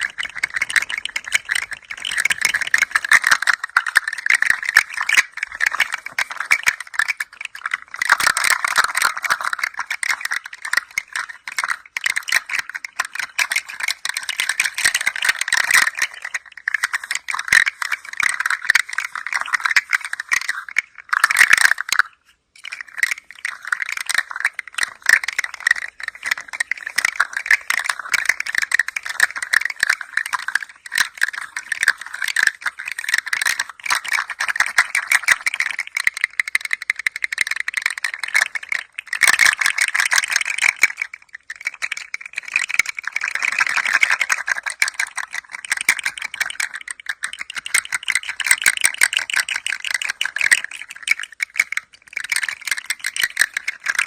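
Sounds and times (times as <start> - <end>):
toy rattling: 0.0 - 54.0.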